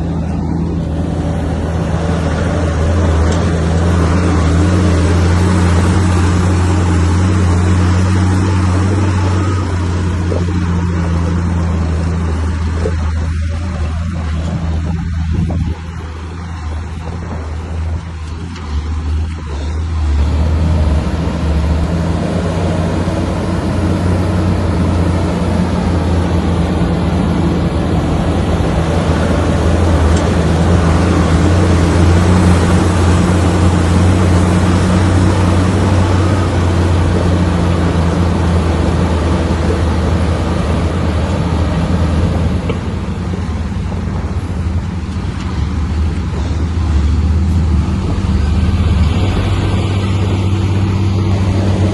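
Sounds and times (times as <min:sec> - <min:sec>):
bulldozer diesel engine under load: 0:00.0 - 0:51.9.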